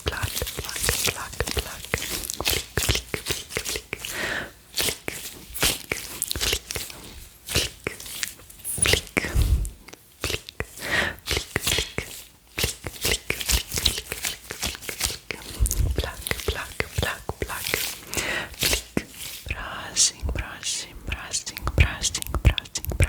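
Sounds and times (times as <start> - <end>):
gloves rubbing and crinkling: 0.0 - 23.0.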